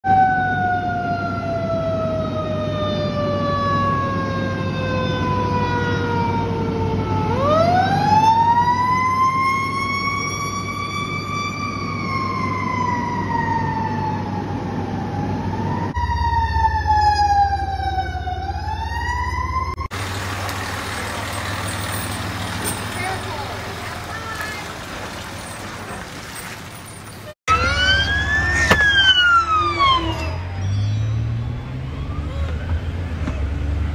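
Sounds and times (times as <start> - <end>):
fire truck sirens wailing: 0.0 - 33.9
fire truck engine: 0.1 - 33.9
road noise: 1.6 - 33.9.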